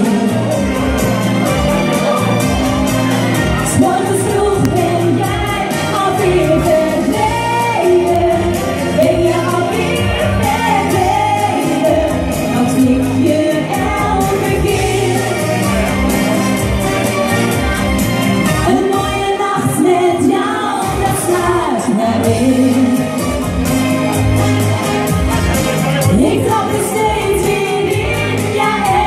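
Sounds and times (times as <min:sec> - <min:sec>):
women singing into microphones: 0:00.0 - 0:01.4, 0:03.3 - 0:16.6, 0:18.4 - 0:24.4, 0:26.0 - 0:29.0
pop accompaniment with steady beat: 0:00.0 - 0:29.0.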